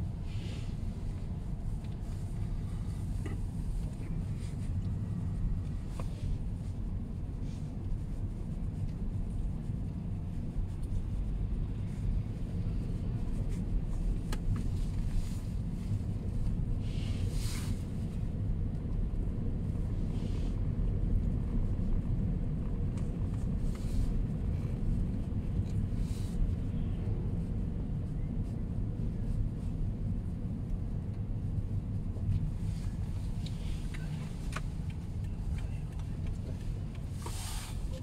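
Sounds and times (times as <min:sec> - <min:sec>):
vehicle rumble inside cabin: 0:00.0 - 0:38.0.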